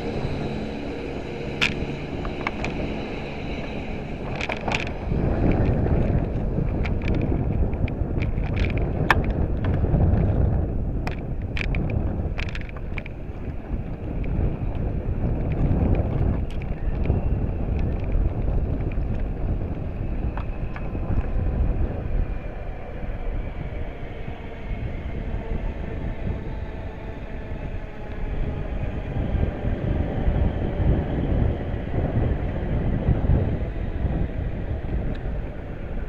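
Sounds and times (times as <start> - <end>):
electric train whine: 0.0 - 36.0
wind rumble on microphone: 0.0 - 36.0.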